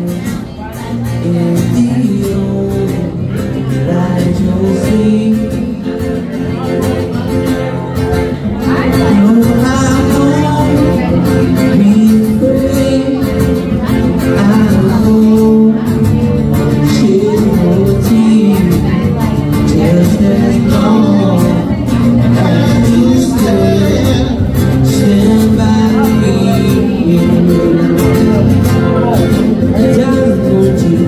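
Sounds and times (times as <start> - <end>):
man singing: 0.0 - 31.0
strummed acoustic guitars: 0.0 - 31.0.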